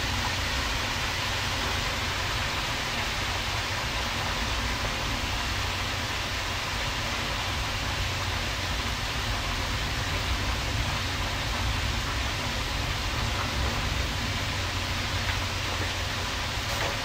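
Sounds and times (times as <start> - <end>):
shrimp sizzling in frying pan: 0.0 - 17.0.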